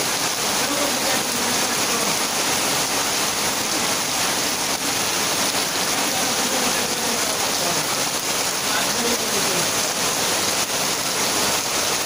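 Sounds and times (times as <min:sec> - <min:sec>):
heavy rain on a tin roof: 0:00.0 - 0:12.0.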